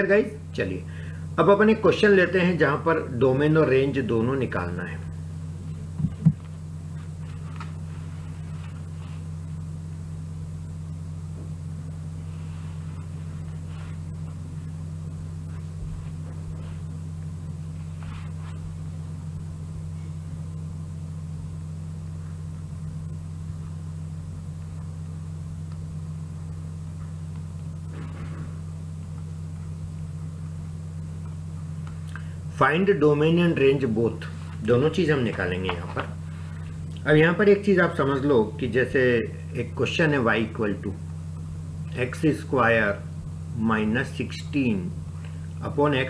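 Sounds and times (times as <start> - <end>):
low droning hum: 0.0 - 46.0.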